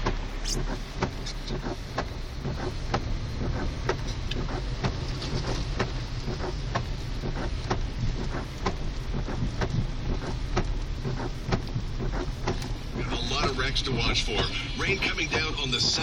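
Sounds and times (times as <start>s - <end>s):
car engine and road hum: 0.0s - 16.0s
rhythmic sharp ticking: 0.0s - 16.0s.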